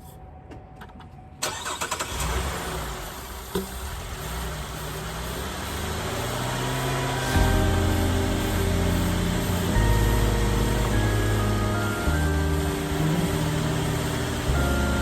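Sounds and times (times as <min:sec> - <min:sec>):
car engine starting and running: 0:01.4 - 0:15.0.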